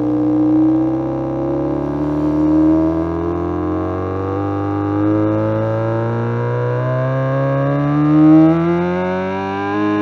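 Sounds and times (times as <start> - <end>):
electronic engine-like drone: 0.0 - 10.0.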